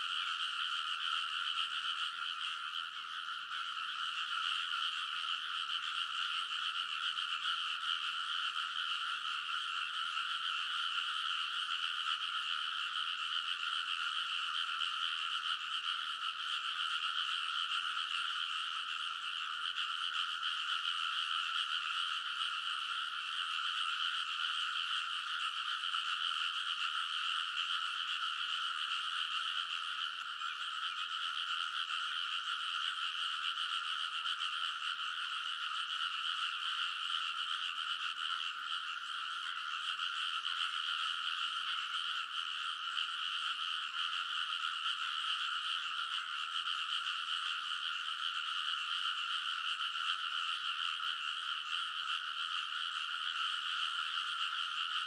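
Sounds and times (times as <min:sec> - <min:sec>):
chorus of frogs calling: 0:00.0 - 0:55.0.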